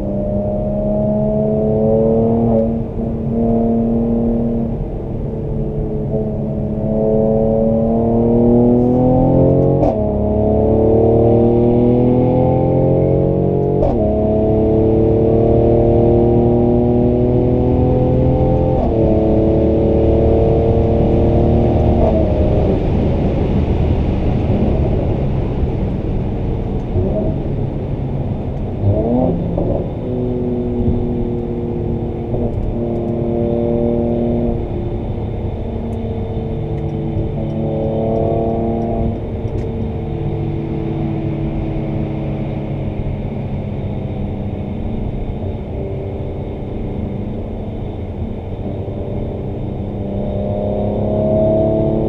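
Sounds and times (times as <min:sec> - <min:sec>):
car engine revving: 0:00.0 - 0:52.0
road and tyre rumble: 0:00.0 - 0:52.0.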